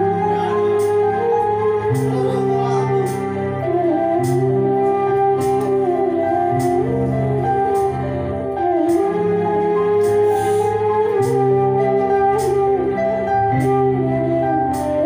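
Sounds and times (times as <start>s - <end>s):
electric bass: 0.0s - 15.0s
electric guitars: 0.0s - 15.0s
sliding melody line: 0.0s - 15.0s.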